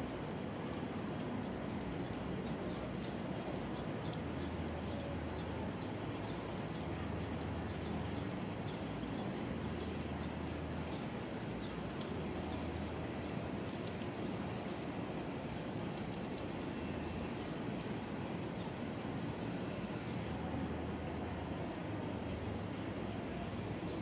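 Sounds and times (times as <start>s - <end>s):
raindrops ticking: 0.0s - 24.0s
steady rain falling: 0.0s - 24.0s.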